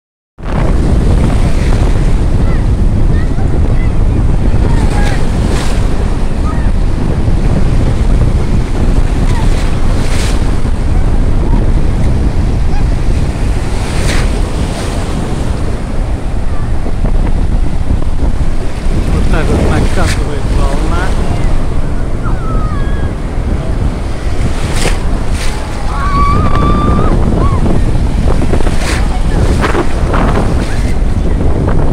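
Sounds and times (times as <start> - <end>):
waves breaking on shore: 0.4 - 31.9
wind buffeting microphone: 0.4 - 31.9.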